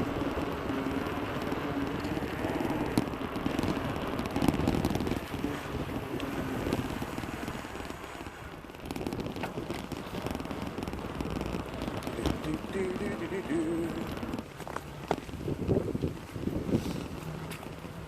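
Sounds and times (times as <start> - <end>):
sharp clicks and rattles: 0.0 - 18.0
wind buffeting microphone: 0.0 - 18.0.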